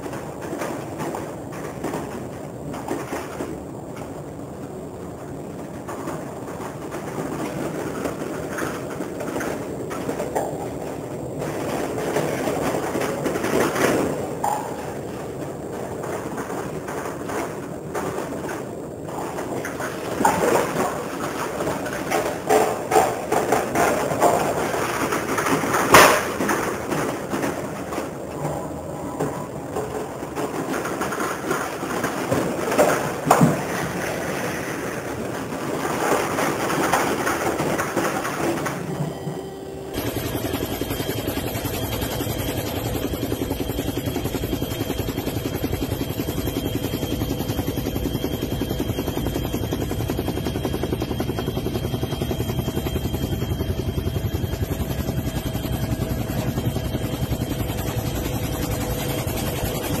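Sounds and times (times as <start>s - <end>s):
faint steady whine: 0.0s - 60.0s
helicopter engine and rotor: 0.0s - 60.0s
storm wind: 0.0s - 60.0s.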